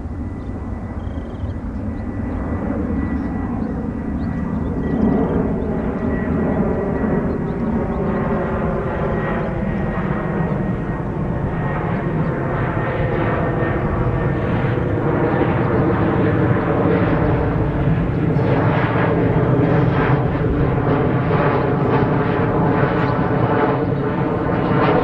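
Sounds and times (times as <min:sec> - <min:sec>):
airplane engine drone: 0:00.0 - 0:25.0.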